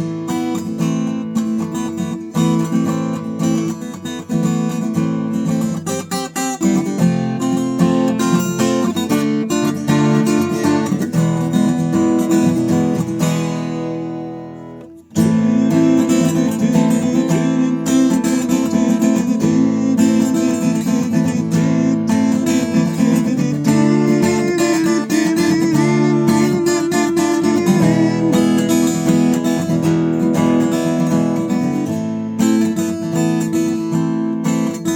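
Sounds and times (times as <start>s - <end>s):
acoustic guitar strumming: 0.0s - 34.9s.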